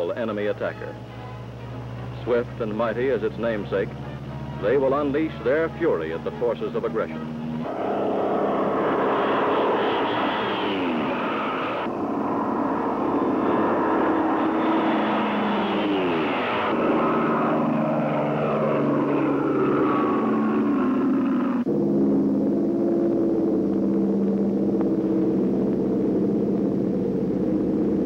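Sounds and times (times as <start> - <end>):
propeller plane passing overhead: 0.9 - 28.0.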